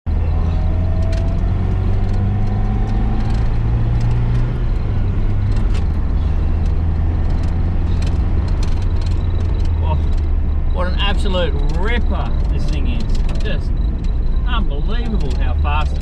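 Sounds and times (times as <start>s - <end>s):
car engine running: 0.1s - 16.0s.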